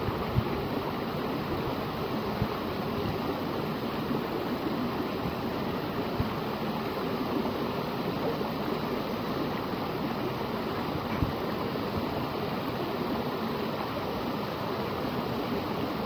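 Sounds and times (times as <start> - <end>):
waterfall cascading into pond: 0.0 - 16.0.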